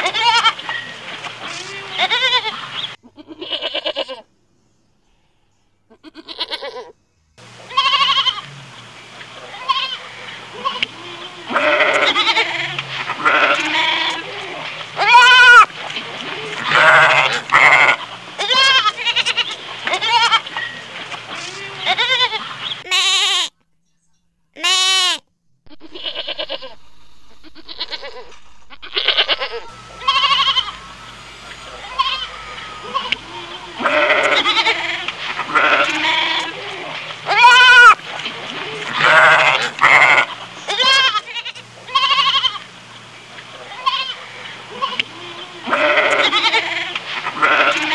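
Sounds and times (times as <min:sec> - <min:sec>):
goats bleating: 0:00.0 - 0:04.2, 0:06.0 - 0:06.9, 0:07.7 - 0:08.6, 0:09.4 - 0:23.6, 0:24.6 - 0:26.8, 0:27.4 - 0:42.7, 0:43.6 - 0:47.9.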